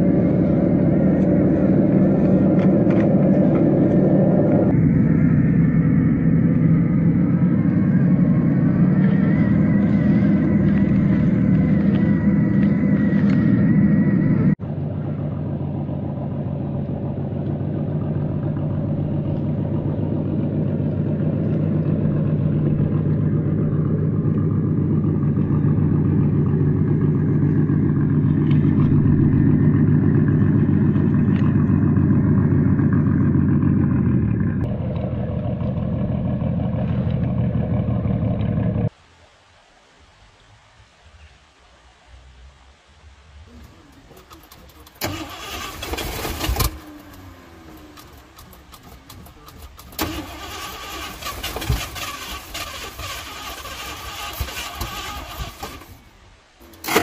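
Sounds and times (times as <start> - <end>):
truck engine running: 0.0 - 39.0, 43.5 - 57.0.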